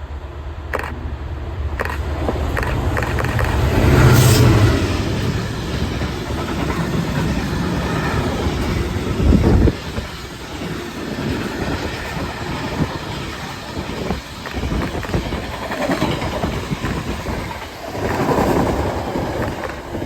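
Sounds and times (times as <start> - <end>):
train rumble: 0.0 - 20.0
train wheels clattering over rails: 1.8 - 20.0.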